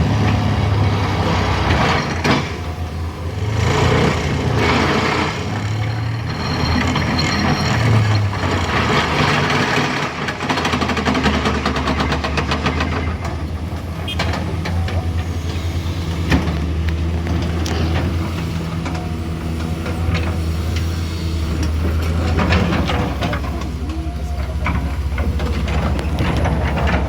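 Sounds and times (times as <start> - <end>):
heavy vehicle engine humming: 0.0 - 27.0.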